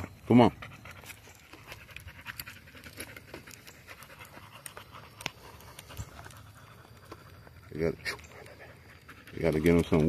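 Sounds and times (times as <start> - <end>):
dogs panting: 0.0 - 10.0.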